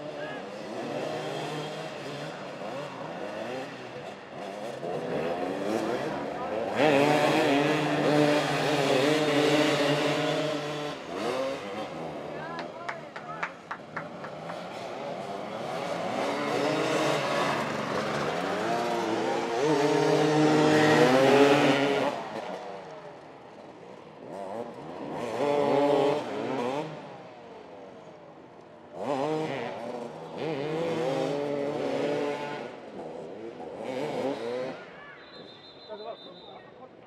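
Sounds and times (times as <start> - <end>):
motorcycles revving and accelerating: 0.0 - 35.6.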